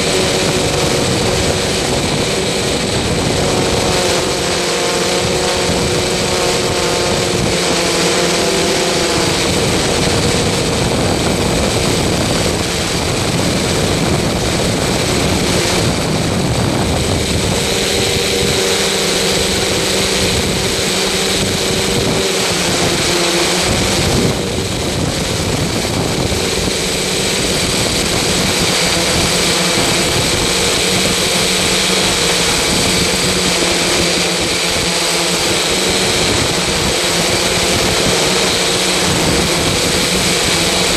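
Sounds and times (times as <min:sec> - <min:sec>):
mechanical drone with whine: 0:00.0 - 0:40.9.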